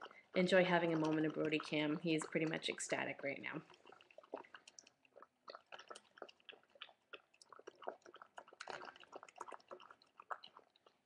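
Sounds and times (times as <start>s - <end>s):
dog chewing wet food: 0.0s - 11.0s.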